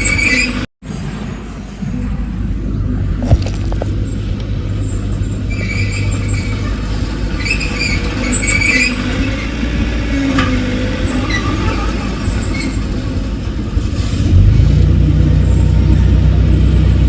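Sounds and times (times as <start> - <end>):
bulldozer diesel engine running: 0.0 - 17.0
steel tracks squealing: 0.0 - 17.0.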